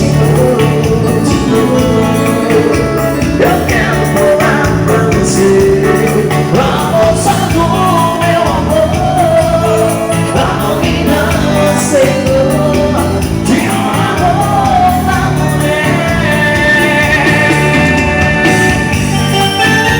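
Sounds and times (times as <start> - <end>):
dance band playing: 0.0 - 19.9.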